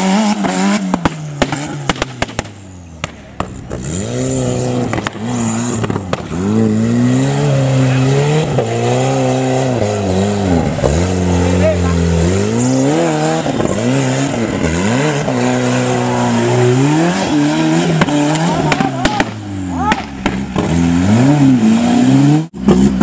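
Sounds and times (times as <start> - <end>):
buggy engine revving: 0.0 - 23.0
sharp exhaust cracks: 0.3 - 21.0.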